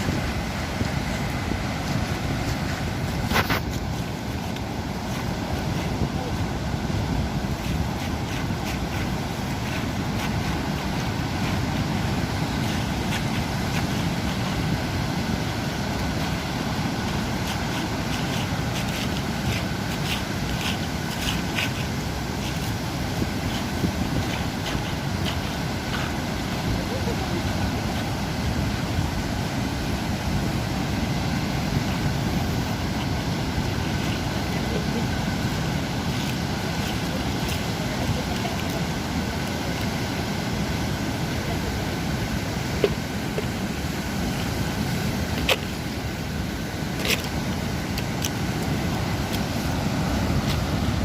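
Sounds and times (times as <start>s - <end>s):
sea rumbling: 0.0s - 51.0s
wind buffeting microphone: 0.0s - 51.0s.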